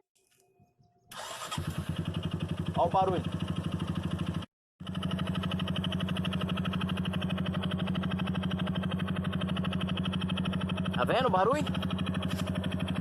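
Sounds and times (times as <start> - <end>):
engine knocking: 1.2 - 13.0
motorcycle engine idling: 1.2 - 13.0.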